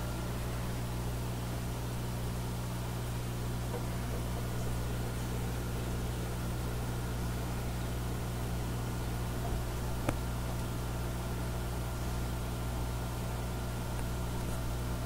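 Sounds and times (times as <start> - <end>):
aquarium filter humming: 0.0 - 15.0.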